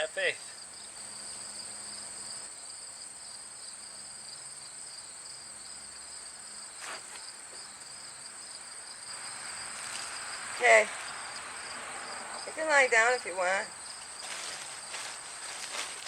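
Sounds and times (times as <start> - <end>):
insect chorus trilling: 0.0 - 16.0.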